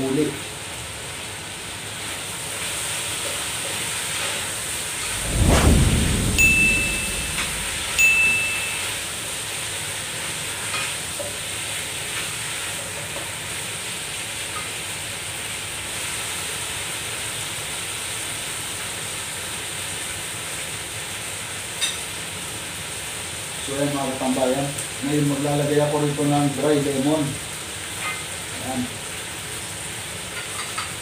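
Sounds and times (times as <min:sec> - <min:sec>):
chicken sizzling in oil: 0:00.0 - 0:05.1, 0:06.4 - 0:31.0.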